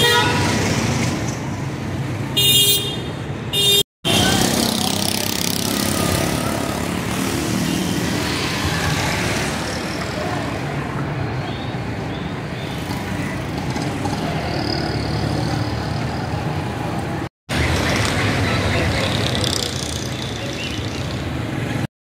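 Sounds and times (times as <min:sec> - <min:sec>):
auto-rickshaw engines: 0:00.0 - 0:21.9
motorcycle engines: 0:00.0 - 0:21.9.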